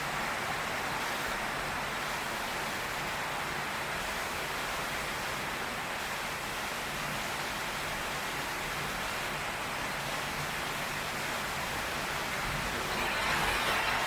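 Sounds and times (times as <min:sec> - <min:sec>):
heavy rain on a tin roof: 0:00.0 - 0:14.0.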